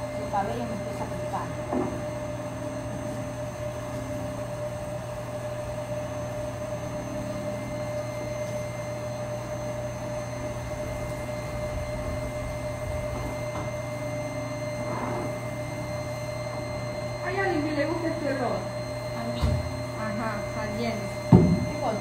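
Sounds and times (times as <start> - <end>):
machine hum with high tone: 0.0 - 22.0.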